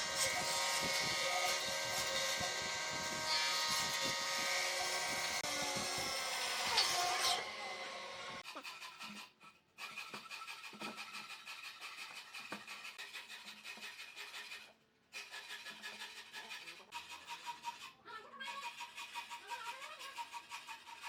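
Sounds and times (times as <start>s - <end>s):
hand tool rasping on wood: 0.0s - 21.0s.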